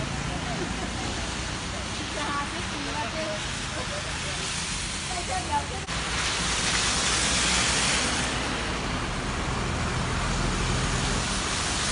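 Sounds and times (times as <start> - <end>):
water spraying from truck wheels: 0.0 - 11.9.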